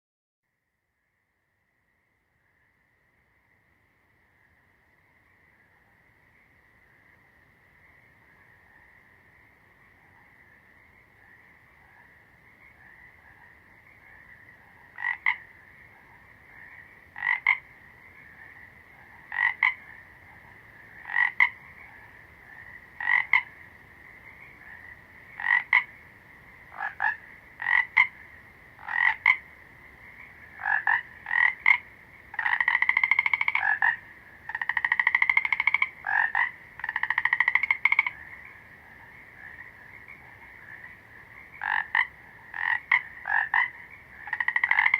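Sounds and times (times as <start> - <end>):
frog calling: 2.4 - 44.9.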